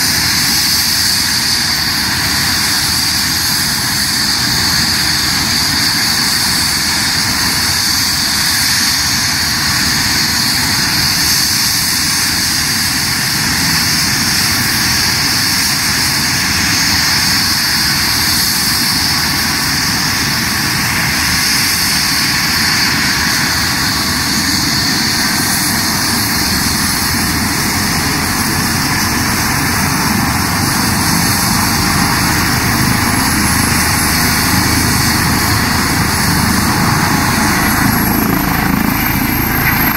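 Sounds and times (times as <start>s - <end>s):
helicopter turbine and rotor whine: 0.0s - 39.9s.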